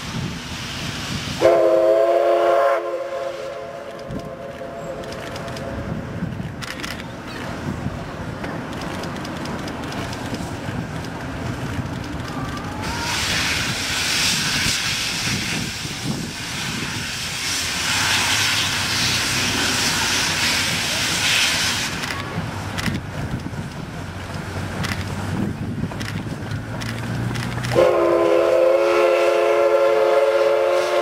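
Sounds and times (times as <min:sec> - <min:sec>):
steam locomotive hissing: 0:00.0 - 0:31.0
train rumbling: 0:00.0 - 0:31.0.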